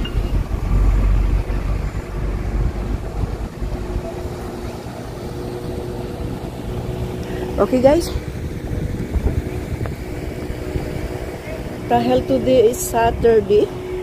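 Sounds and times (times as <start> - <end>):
boat engine droning: 0.0 - 14.0
wind buffeting microphone: 0.0 - 14.0.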